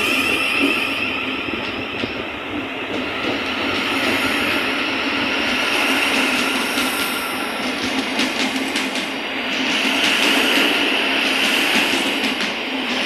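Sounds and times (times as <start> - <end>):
electric train running past: 0.0 - 13.0.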